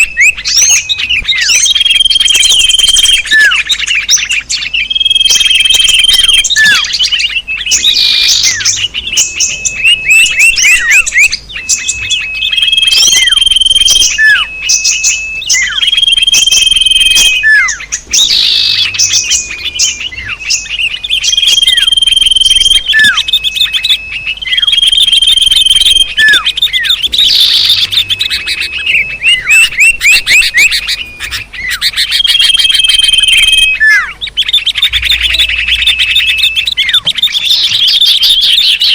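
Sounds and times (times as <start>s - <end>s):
high bird whistle: 0.0s - 38.9s
songbirds chirping: 0.0s - 38.9s.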